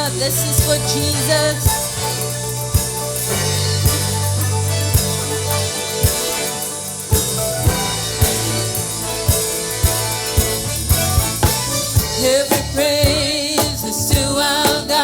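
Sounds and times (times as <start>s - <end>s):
bass and keyboard chords: 0.0s - 15.0s
drum kit beat: 0.0s - 15.0s.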